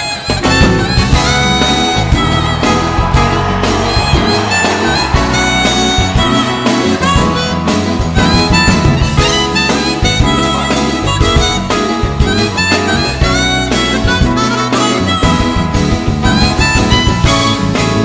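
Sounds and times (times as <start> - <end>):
chromatic harmonica solo: 0.0 - 18.0
live band playing: 0.0 - 18.0.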